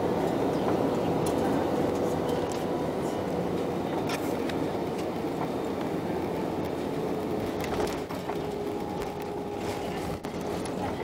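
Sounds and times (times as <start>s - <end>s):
jet engine and wheel rumble: 0.0s - 11.0s.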